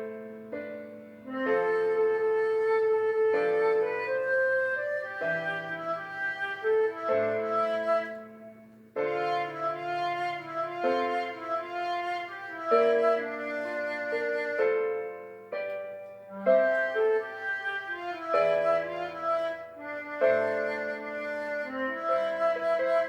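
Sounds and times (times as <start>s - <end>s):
pop backing track with piano: 0.0s - 23.0s
harmonica melody: 1.2s - 15.6s, 16.2s - 23.0s.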